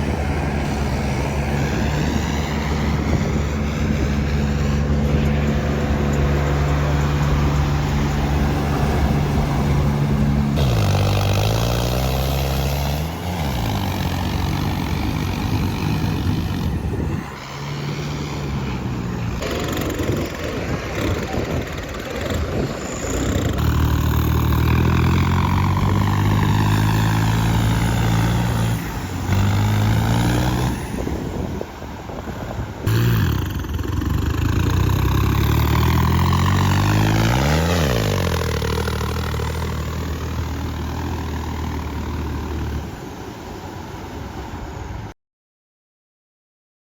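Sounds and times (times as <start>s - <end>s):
diesel engine under load: 0.0s - 45.1s.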